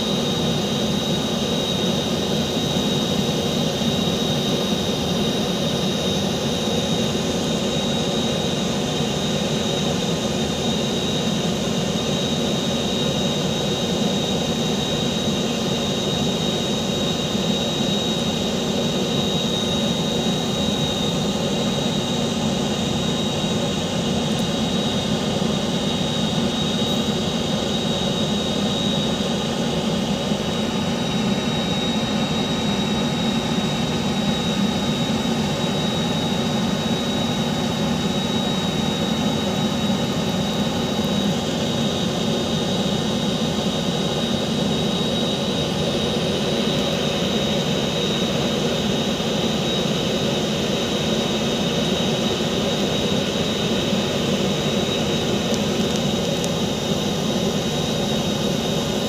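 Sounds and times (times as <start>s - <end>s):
turbine-like whine: 0.0s - 59.0s.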